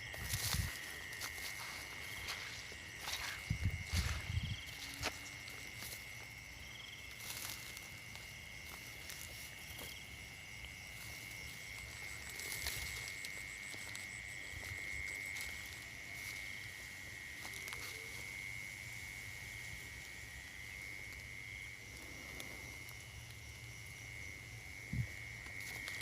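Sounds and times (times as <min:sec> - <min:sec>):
night insects chirring: 0:00.0 - 0:26.0
pulsed insect trill: 0:00.0 - 0:26.0.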